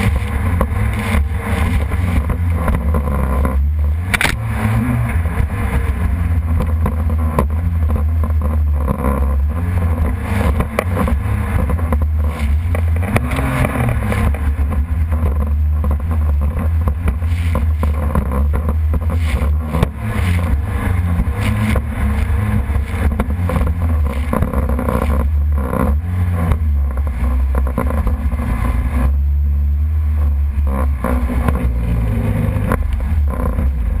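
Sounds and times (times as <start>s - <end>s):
jet ski engine running: 0.0s - 34.0s.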